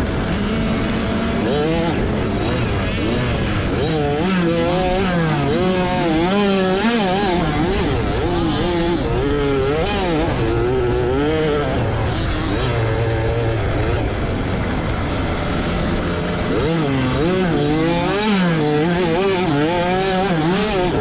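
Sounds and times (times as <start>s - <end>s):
two-stroke motocross engine racing: 0.0s - 21.0s.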